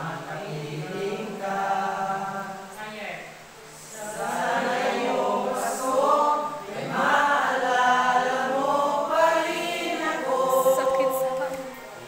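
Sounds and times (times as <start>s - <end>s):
young men singing together: 0.0s - 2.8s, 3.7s - 11.4s.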